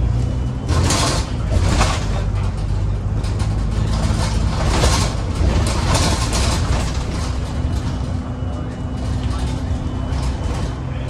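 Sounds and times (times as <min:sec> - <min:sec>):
bus diesel engine hum: 0:00.0 - 0:11.0.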